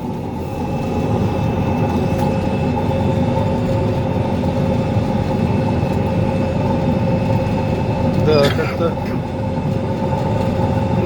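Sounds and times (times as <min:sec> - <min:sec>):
combine harvester rumble: 0:00.0 - 0:11.0
whining drives: 0:00.0 - 0:11.0.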